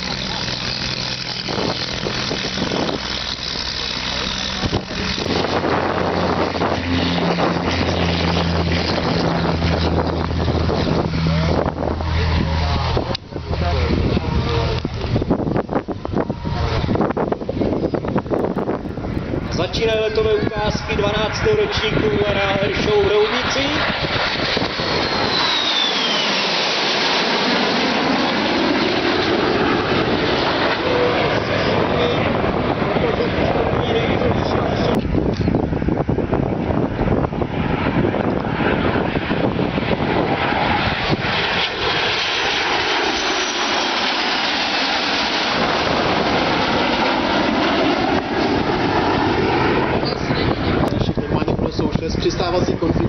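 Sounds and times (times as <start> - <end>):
propeller plane engines droning: 0.0 - 53.0
wind noise: 0.0 - 53.0.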